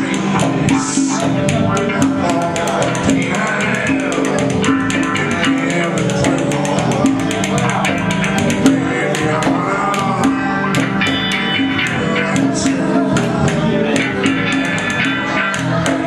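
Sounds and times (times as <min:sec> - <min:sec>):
blues rock band playing: 0:00.0 - 0:16.0
hand percussion: 0:00.0 - 0:16.0.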